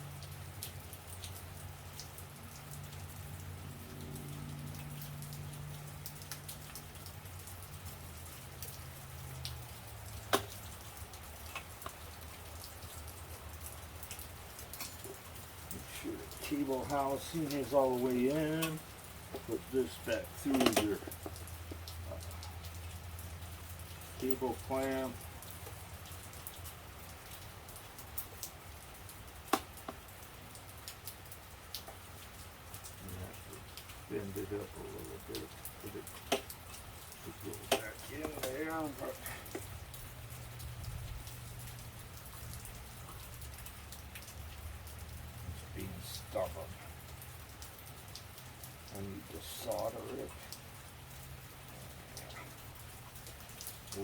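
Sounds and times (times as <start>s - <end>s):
rain patter: 0.0s - 54.0s
drip ticks: 0.1s - 54.0s.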